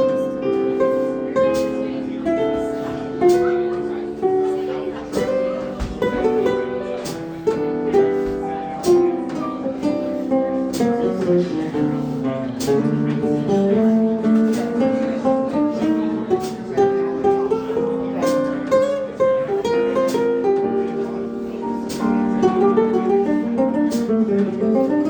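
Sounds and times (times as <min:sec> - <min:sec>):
slow jazz guitar and piano: 0:00.0 - 0:25.0.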